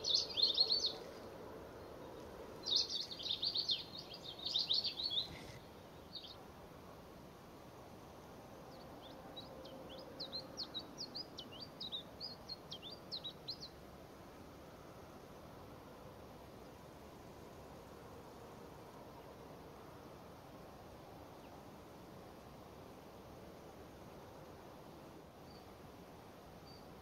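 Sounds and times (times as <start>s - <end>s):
small songbirds chirping: 0.0s - 27.0s.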